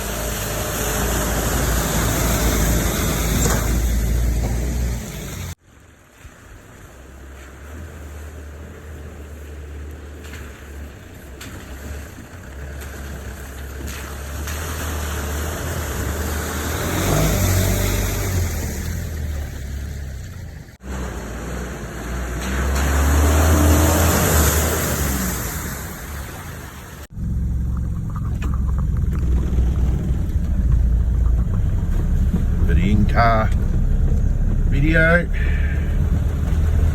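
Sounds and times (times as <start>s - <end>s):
diesel engine labouring and revving: 0.0s - 5.6s, 6.6s - 36.9s.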